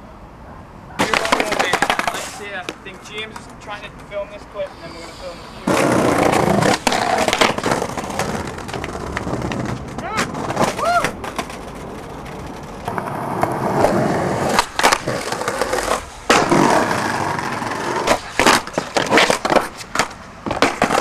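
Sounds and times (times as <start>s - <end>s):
skateboard clacking on concrete: 1.0s - 4.4s, 5.6s - 21.0s
skateboard wheels rolling: 1.0s - 21.0s.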